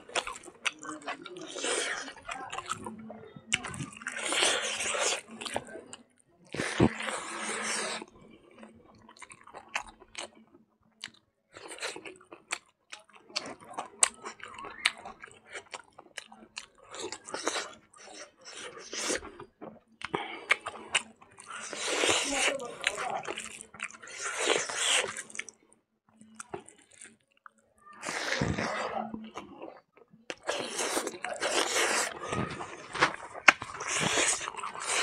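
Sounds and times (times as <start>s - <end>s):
person chewing with wet crunching: 0.0s - 35.0s.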